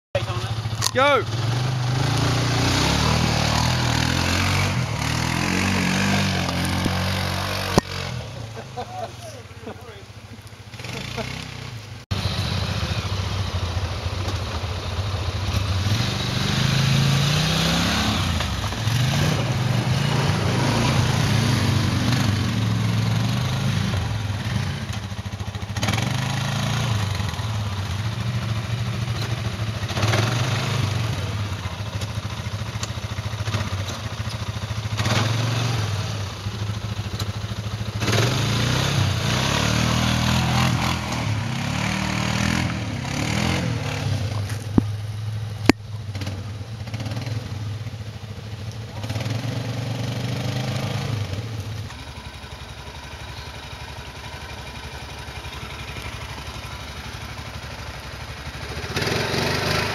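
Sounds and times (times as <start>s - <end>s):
quad bike engines revving: 0.2s - 59.9s.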